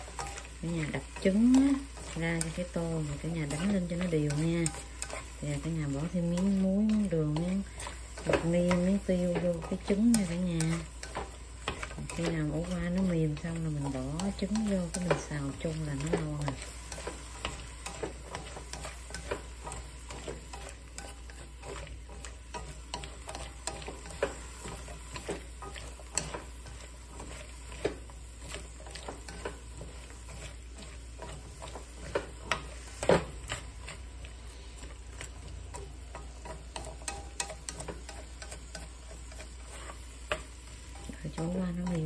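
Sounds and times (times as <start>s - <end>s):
chopsticks tapping a pan: 0.0s - 42.0s
faint steady sizzle: 0.0s - 42.0s.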